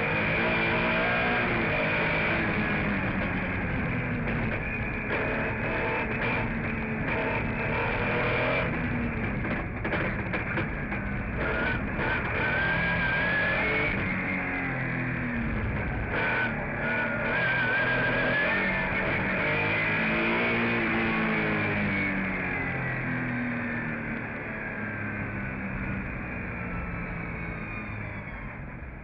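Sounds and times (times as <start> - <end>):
car engine running hard: 0.0 - 29.0.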